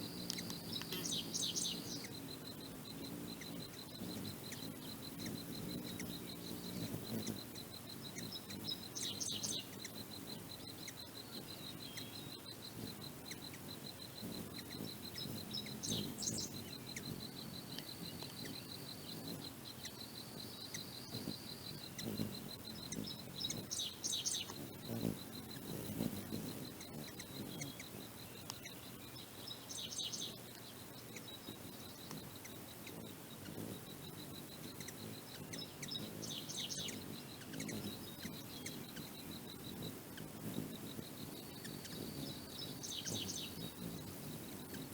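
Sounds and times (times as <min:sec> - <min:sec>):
hum of wings: 0:00.0 - 0:44.9
hummingbirds chipping: 0:00.0 - 0:44.9
rapid insect trill: 0:00.0 - 0:44.9.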